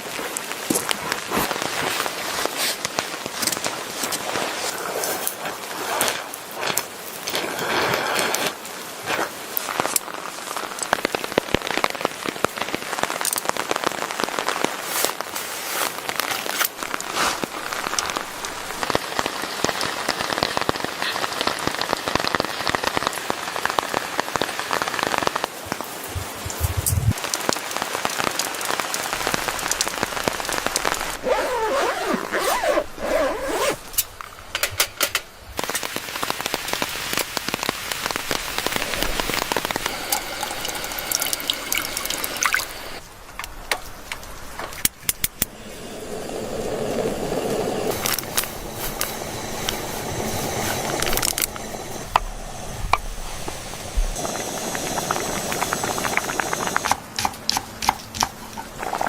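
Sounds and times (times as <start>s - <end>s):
rain pattering: 0.0s - 31.5s, 33.8s - 45.6s, 46.2s - 59.0s.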